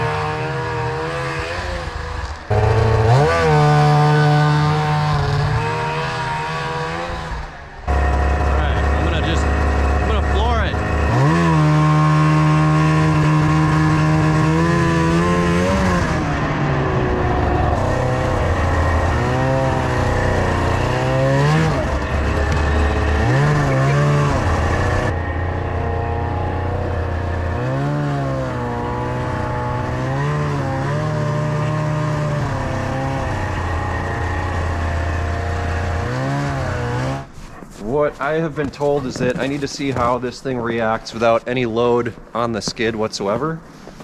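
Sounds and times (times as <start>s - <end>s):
snowmobile two-stroke engine: 0.0s - 44.0s.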